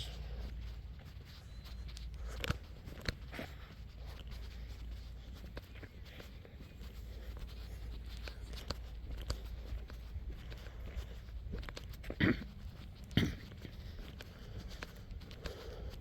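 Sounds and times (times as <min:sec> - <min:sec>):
footsteps on dirt road: 0:00.0 - 0:16.0
low steady rumble: 0:00.0 - 0:16.0.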